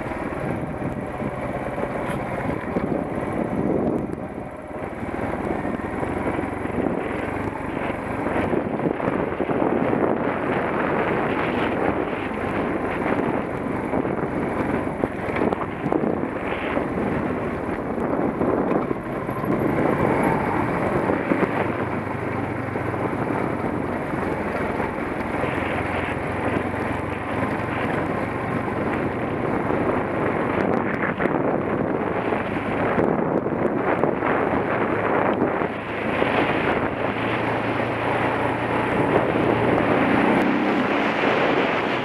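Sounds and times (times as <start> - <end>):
dirt bike engine running: 0.0 - 42.0
wind buffeting microphone: 0.0 - 42.0.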